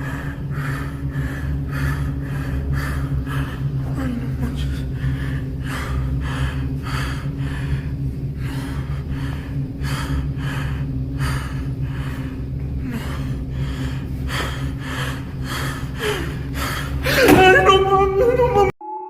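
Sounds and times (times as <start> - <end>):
person breathing heavily: 0.0 - 17.7
steady low hum: 0.0 - 18.8.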